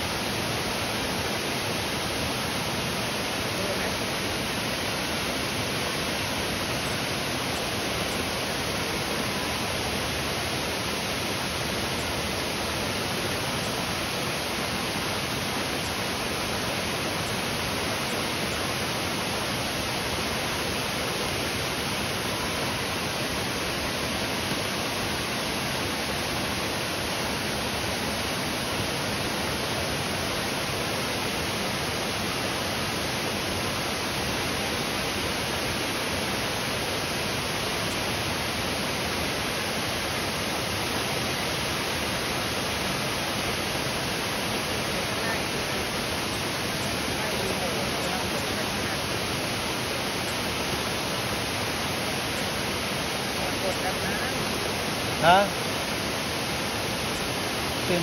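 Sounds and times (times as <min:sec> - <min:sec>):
waterfall pouring into pool: 0:00.0 - 0:58.0.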